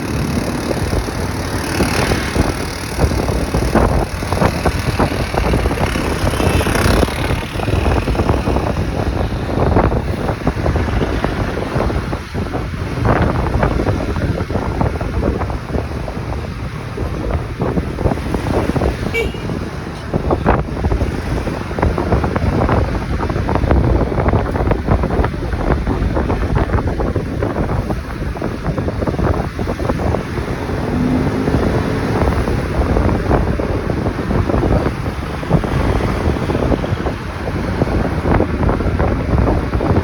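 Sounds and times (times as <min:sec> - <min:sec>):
motorcycle road noise: 0:00.0 - 0:40.0
wind buffeting microphone: 0:00.0 - 0:40.0.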